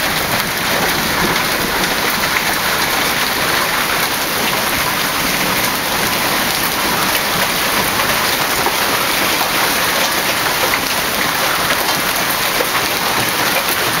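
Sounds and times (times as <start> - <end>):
hail falling hard: 0.0 - 14.0.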